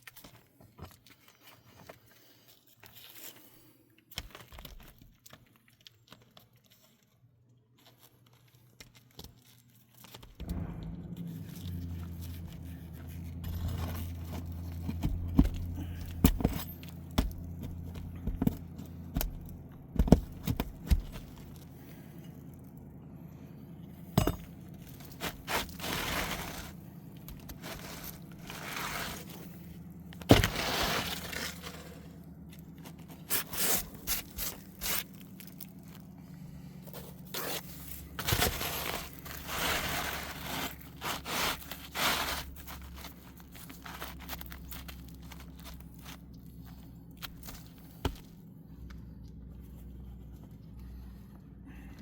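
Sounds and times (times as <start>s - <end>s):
faint low hum: 0.0s - 52.0s
handling and scraping noises: 0.0s - 52.0s.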